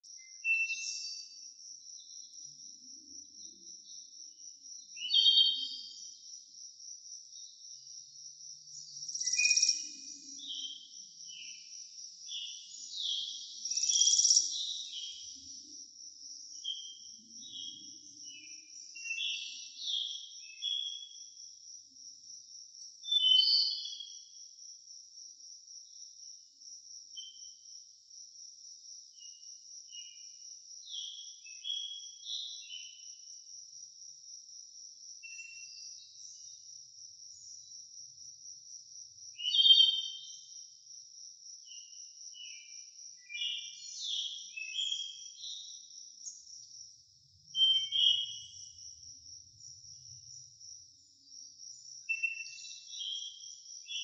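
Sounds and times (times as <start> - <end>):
high insect trill: 0.1 - 54.0.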